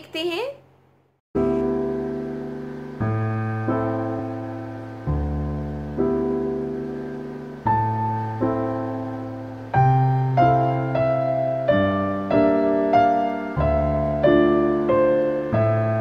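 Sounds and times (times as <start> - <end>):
gentle piano music: 1.4 - 16.0.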